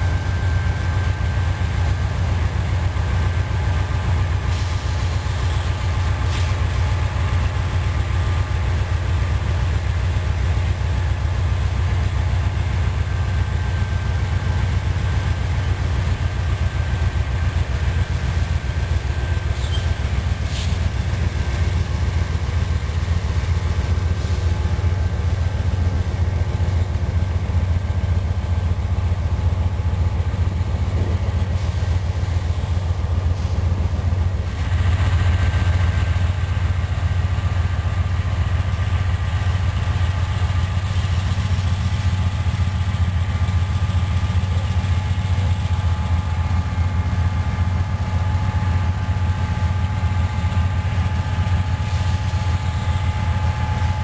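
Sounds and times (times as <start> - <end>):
constant high whine: 0.0 - 54.0
deep diesel engine rumble: 0.0 - 54.0.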